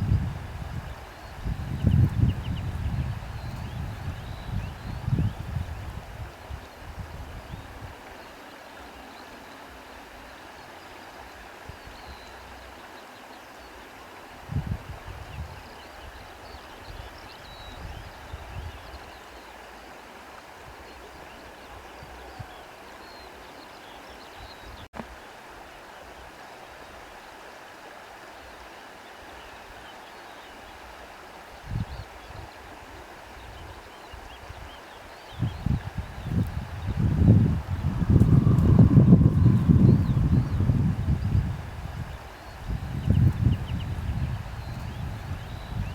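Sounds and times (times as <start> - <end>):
steady wind: 0.0 - 25.2, 30.7 - 45.9.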